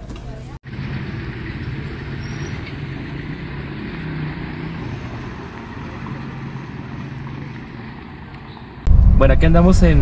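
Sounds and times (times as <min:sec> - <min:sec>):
background traffic: 0:00.0 - 0:10.0
vehicle engine humming: 0:00.6 - 0:09.0.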